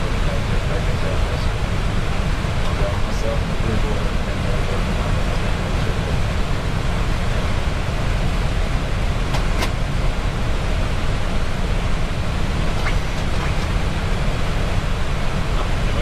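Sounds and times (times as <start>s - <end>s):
air rushing over cockpit: 0.0s - 16.0s.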